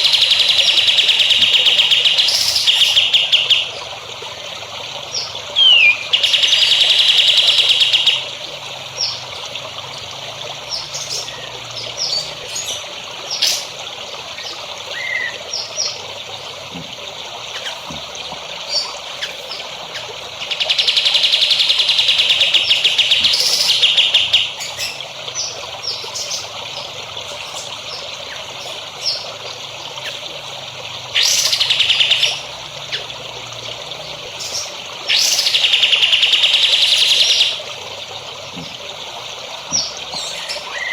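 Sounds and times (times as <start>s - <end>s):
trickle of water: 0.0s - 40.9s.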